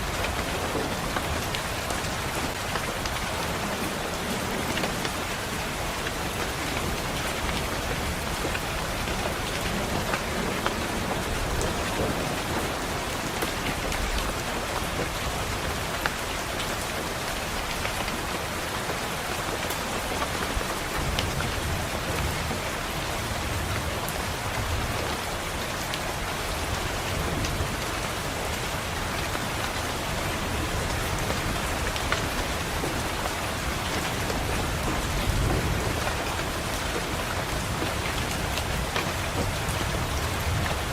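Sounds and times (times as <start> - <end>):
rain hitting a window pane: 0.0 - 40.9.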